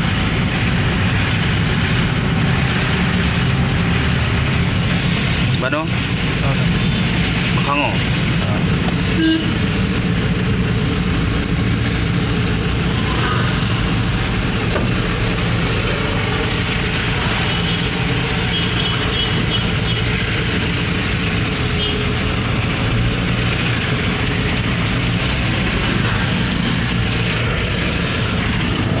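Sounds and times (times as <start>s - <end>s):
road noise: 0.0s - 29.0s
truck engine running: 0.0s - 29.0s.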